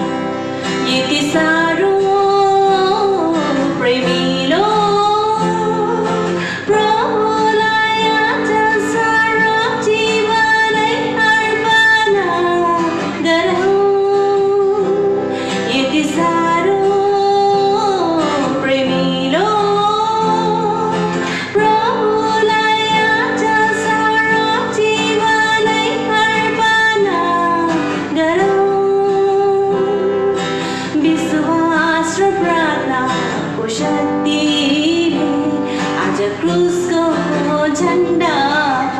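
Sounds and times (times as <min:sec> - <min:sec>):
guitar accompaniment: 0:00.0 - 0:38.9
woman singing worship song: 0:00.6 - 0:38.9.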